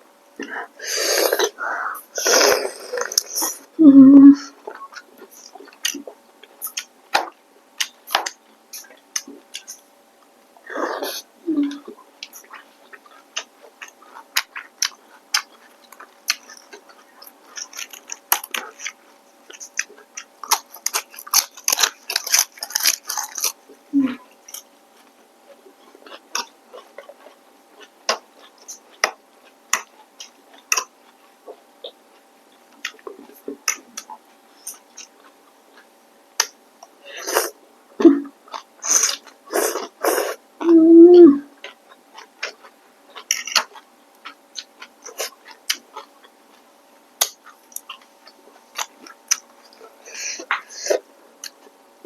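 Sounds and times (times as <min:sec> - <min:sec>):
chewing food: 0:04.5 - 0:40.8, 0:41.5 - 0:51.8.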